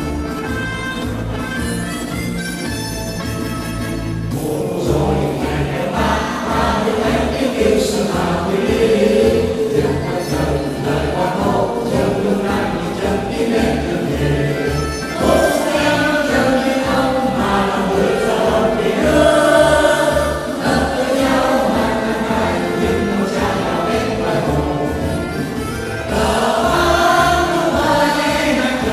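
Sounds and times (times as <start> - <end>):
instrumental backing with bass beat: 0.0 - 28.9
choir singing: 4.3 - 28.9.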